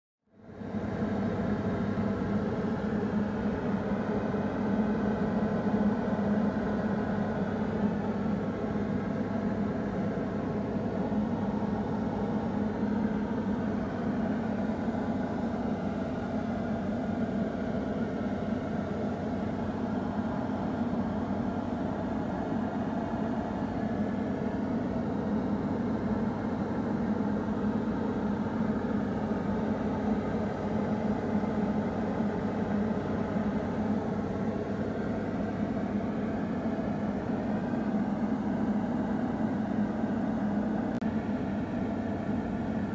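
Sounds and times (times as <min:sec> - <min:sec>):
aircraft engine droning: 0:00.3 - 0:42.9.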